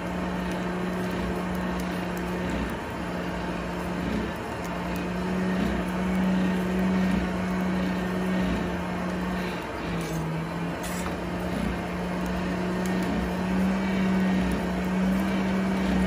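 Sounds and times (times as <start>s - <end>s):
electric motor hum: 0.0s - 16.0s
forge fire rushing: 0.0s - 16.0s.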